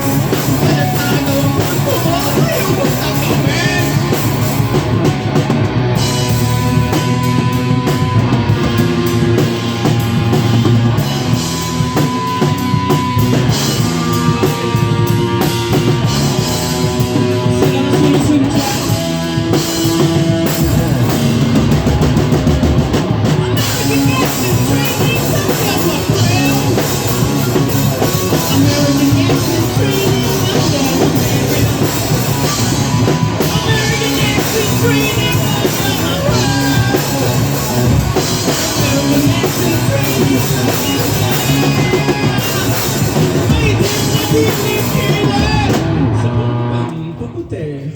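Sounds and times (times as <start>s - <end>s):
person singing: 0.0s - 4.8s, 11.6s - 21.6s, 23.2s - 47.9s
drum kit: 0.0s - 47.2s
bass guitar: 0.0s - 47.9s
electric guitar: 0.0s - 47.9s.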